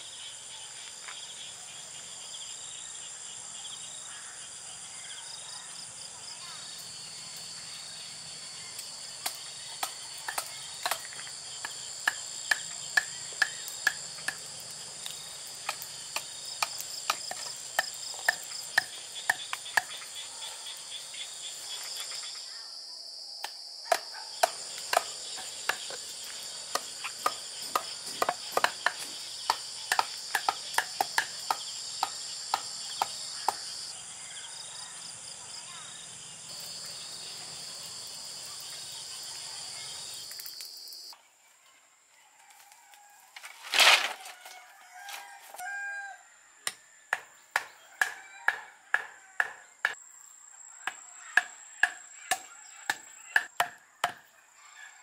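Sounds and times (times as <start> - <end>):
crickets chirping: 0.0 - 41.2, 44.8 - 54.8.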